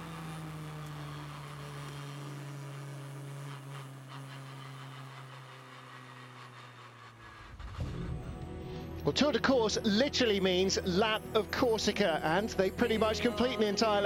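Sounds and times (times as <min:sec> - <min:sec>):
rally car engine droning: 0:00.0 - 0:14.0.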